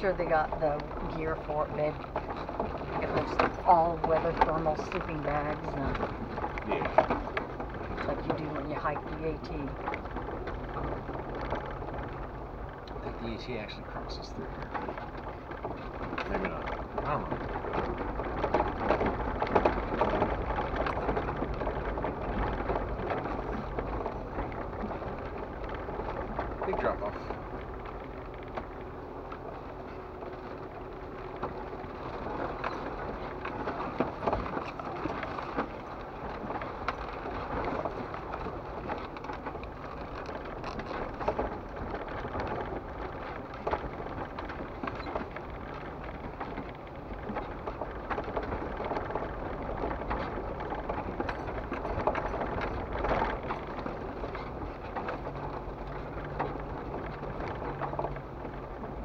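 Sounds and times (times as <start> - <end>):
engine hum: 0.0 - 59.0.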